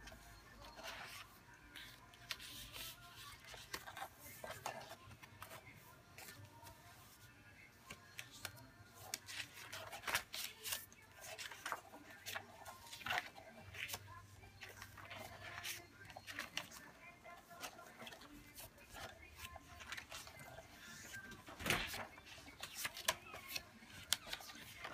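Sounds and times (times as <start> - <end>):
paper pages turning: 0.6 - 7.2, 7.9 - 24.9.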